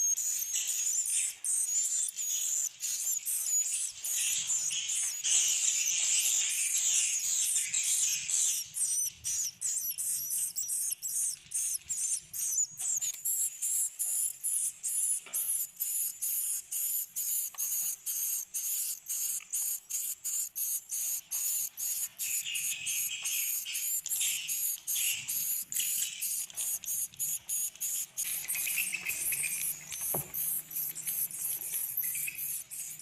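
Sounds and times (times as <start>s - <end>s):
swiftlets chirping and clicking: 0.0s - 33.0s.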